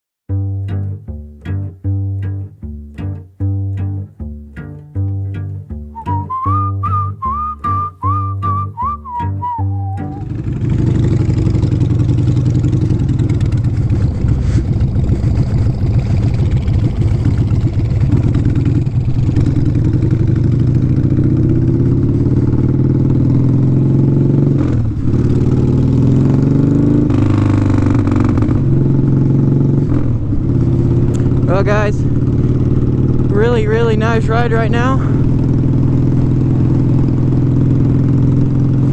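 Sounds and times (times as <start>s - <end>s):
motorcycle engine revving: 5.1s - 38.9s.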